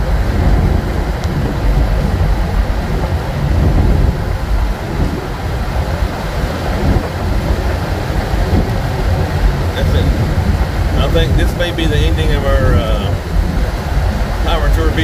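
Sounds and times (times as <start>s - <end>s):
car engine cruising: 0.0s - 15.0s
road noise inside car: 0.0s - 15.0s
wind noise: 0.0s - 15.0s.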